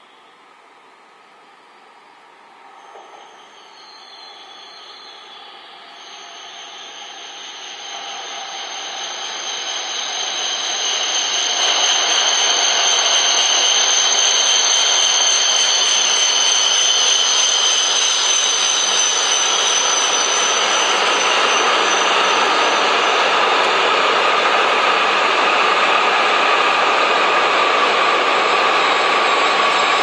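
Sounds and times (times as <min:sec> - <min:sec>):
high whine: 0:02.6 - 0:30.0
high-speed train rushing past: 0:02.6 - 0:30.0.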